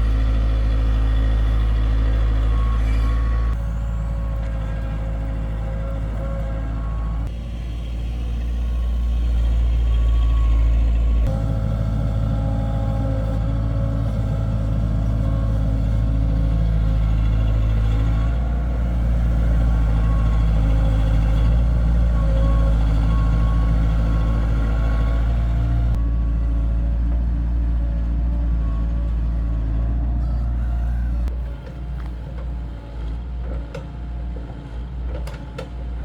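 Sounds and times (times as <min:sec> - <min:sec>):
heavy diesel engine rumbling: 0:00.0 - 0:36.0.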